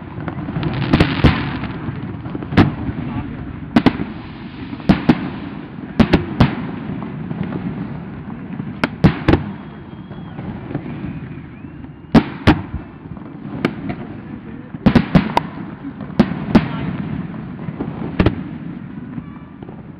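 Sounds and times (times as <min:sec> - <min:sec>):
fireworks booming: 0:00.0 - 0:19.9.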